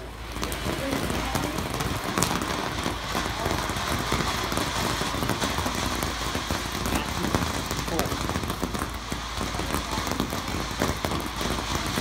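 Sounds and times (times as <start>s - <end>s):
firework crackling: 0.0s - 12.0s.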